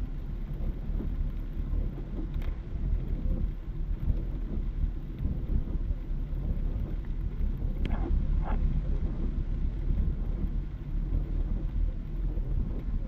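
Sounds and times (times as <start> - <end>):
heavy rain on car windshield: 0.0 - 13.0.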